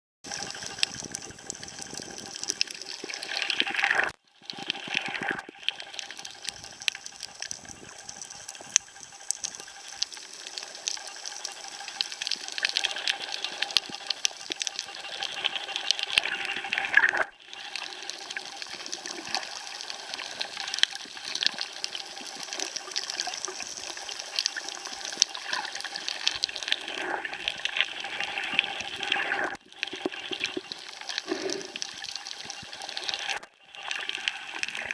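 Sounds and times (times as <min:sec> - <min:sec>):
underwater crackle of clicks: 0:00.3 - 0:34.9
watery hiss: 0:05.0 - 0:34.9.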